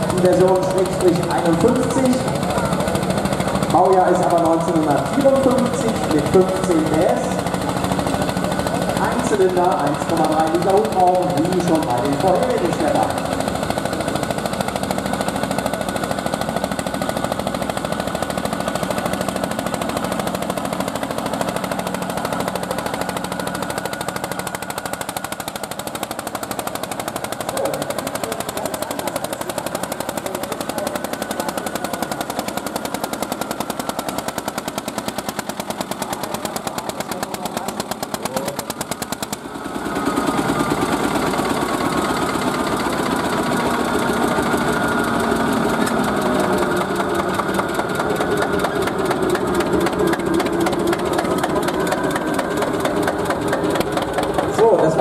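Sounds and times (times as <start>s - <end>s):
diesel tractor engine pounding: 0.0s - 55.0s.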